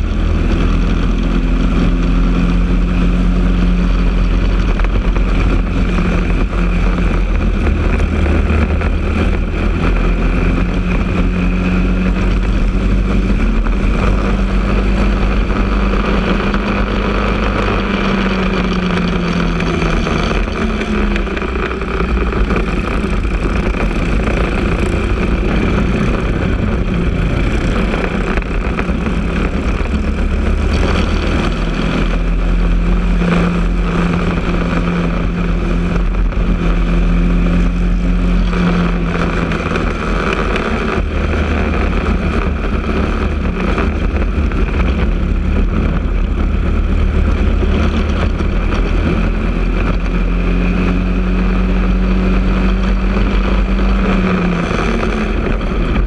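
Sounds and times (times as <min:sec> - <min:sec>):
kart engine revving: 0:00.0 - 0:56.0
road and wind noise: 0:00.0 - 0:56.0.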